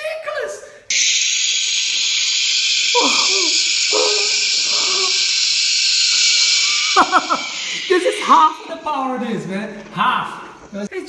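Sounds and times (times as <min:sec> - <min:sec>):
loud hiss from speaker: 0:00.9 - 0:10.9.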